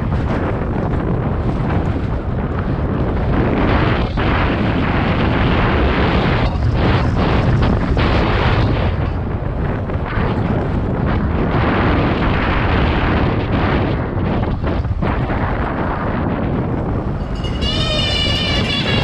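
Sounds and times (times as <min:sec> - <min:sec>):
tyres rumbling over rough ground: 0:00.0 - 0:19.0
wind buffeting microphone: 0:00.0 - 0:19.0.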